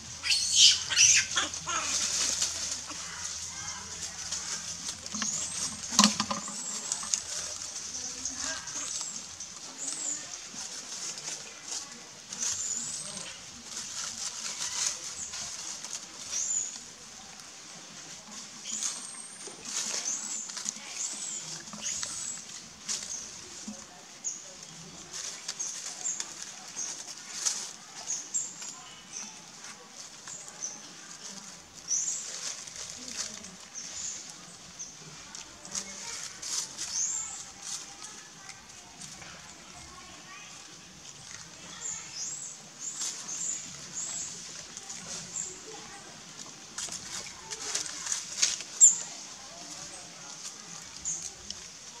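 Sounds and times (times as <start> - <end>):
dry leaves rustling: 0.0 - 52.0.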